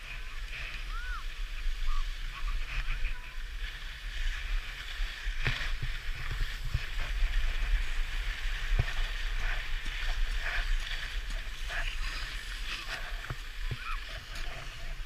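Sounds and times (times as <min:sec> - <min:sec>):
skis scraping over snow: 0:00.0 - 0:15.0
wind rumble on microphone: 0:00.0 - 0:15.0.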